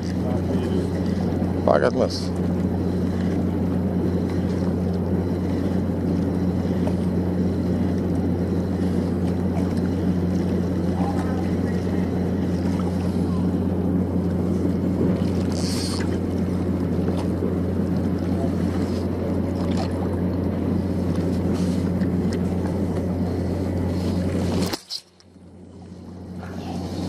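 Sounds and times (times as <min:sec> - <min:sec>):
diesel engine humming: 0:00.0 - 0:24.7.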